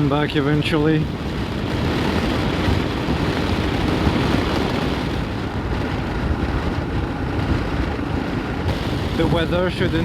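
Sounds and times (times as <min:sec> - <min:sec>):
motorcycle engine hum: 0:00.0 - 0:10.0
wind rush: 0:00.0 - 0:10.0.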